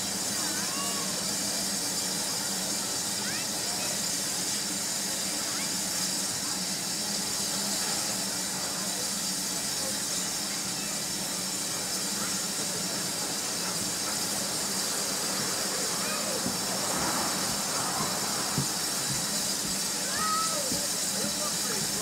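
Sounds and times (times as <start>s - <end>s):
steam hissing from locomotive: 0.0s - 22.0s.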